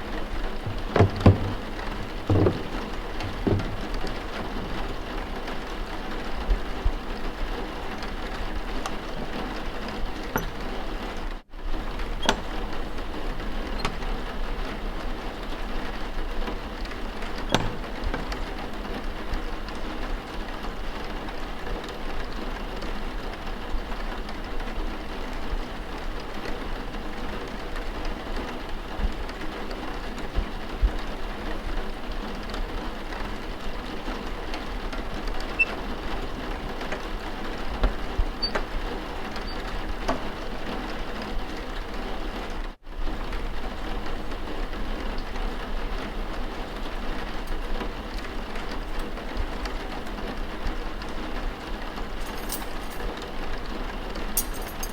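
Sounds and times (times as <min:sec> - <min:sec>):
steady rain: 0:01.6 - 0:52.3.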